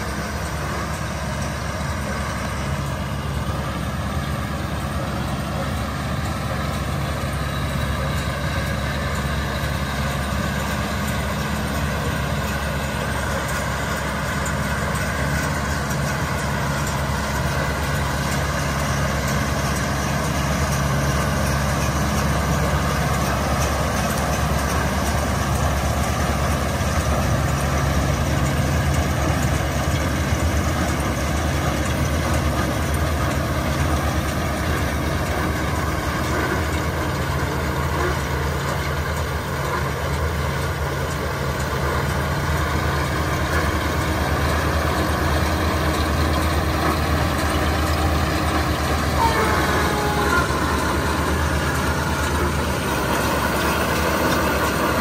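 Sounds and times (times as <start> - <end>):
round baler working hay: 0.0 - 55.0
tractor diesel engine under load: 0.0 - 55.0.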